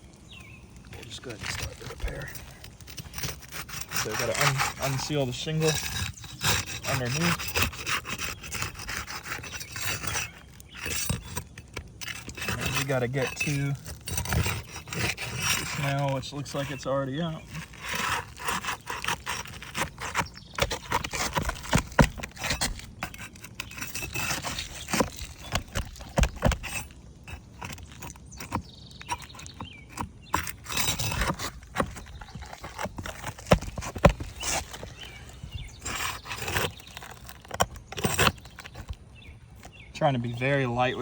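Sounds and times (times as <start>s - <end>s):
metal scraper scraping shingle: 0.3s - 41.0s.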